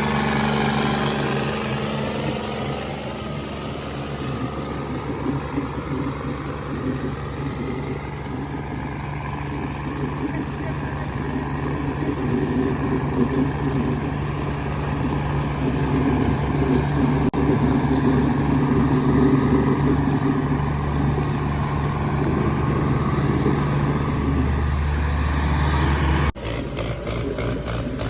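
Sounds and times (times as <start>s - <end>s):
sharply pulsing engine: 0.0s - 28.0s
tractor diesel engine running: 0.0s - 28.0s.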